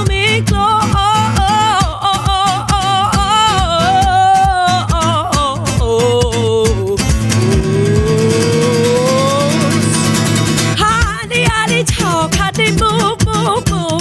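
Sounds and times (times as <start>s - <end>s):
acoustic guitar strumming: 0.0s - 14.0s
woman singing: 0.0s - 14.0s.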